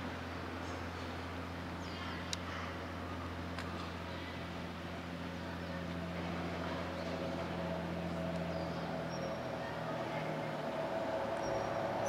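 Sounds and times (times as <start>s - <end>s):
ship diesel engine drone: 0.0s - 12.0s.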